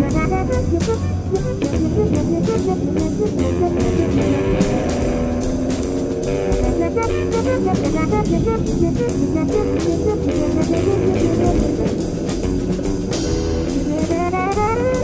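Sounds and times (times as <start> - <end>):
drum kit with cymbal hits: 0.0 - 15.0
horn line: 0.0 - 15.0
live jazz band playing: 0.0 - 15.0.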